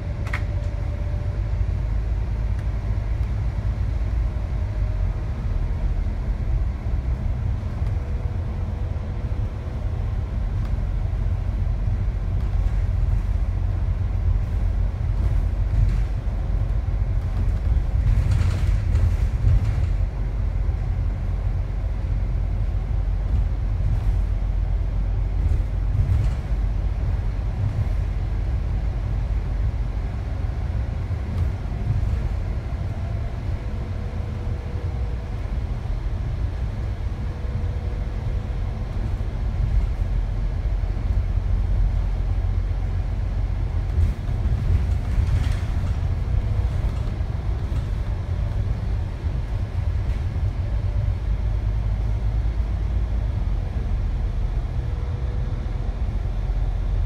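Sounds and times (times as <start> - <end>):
bus engine and tyres rumbling: 0.0 - 57.0.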